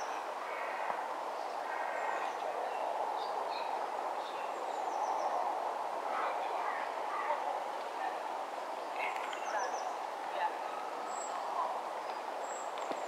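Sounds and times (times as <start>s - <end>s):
steady rushing background noise: 0.0s - 13.0s.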